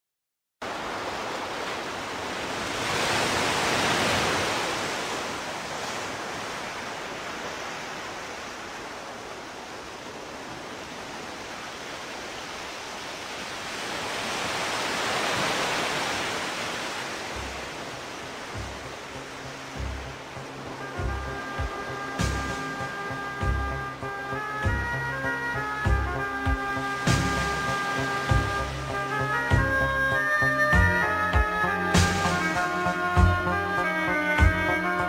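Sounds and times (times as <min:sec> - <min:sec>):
breaking ocean waves: 0:00.6 - 0:35.0.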